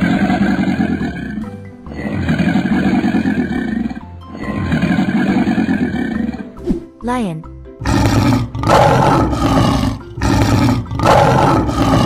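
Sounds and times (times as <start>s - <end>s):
crocodile growl: 0.0s - 6.5s, 7.8s - 12.0s
children's background music: 0.0s - 12.0s.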